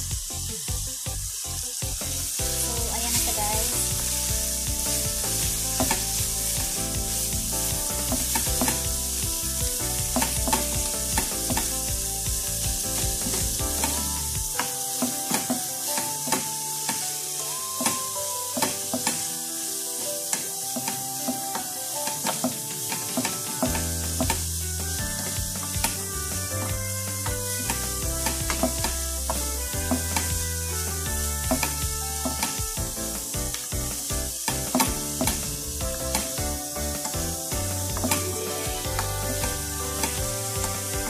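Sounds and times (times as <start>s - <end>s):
vegetables sizzling in a frying pan: 0.0s - 41.0s.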